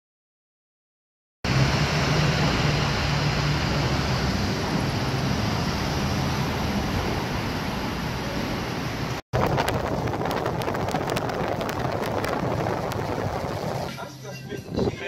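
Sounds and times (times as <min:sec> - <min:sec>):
low car engine hum: 0:01.5 - 0:14.0
traffic noise: 0:01.5 - 0:14.1.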